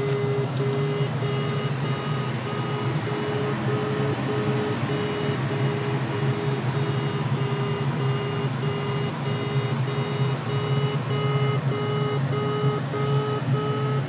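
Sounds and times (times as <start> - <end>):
steady low hum: 0.0 - 14.0
variometer short beeps: 0.0 - 14.0.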